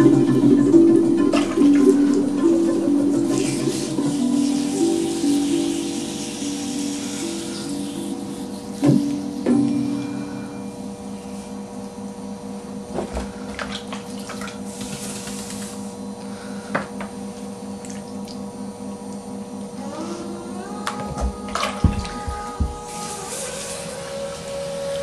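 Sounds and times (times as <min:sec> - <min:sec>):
potter's wheel humming: 0:00.0 - 0:25.0.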